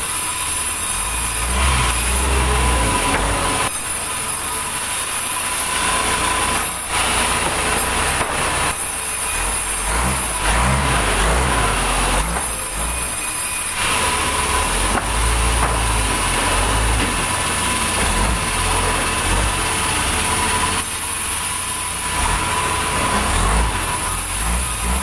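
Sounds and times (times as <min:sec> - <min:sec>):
band saw rasping through wood: 0:00.0 - 0:25.0
machine drive drone: 0:00.0 - 0:25.0.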